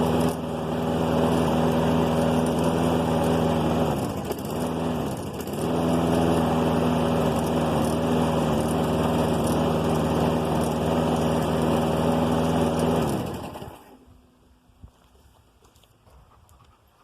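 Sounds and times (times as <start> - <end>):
lawn mower engine running: 0.0 - 14.2.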